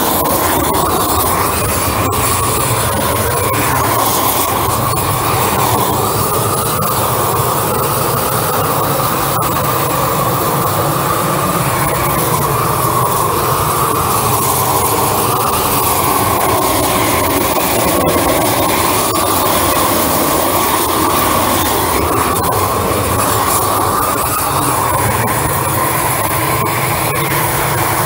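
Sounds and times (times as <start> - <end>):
propane torch flame rushing: 0.0 - 28.0.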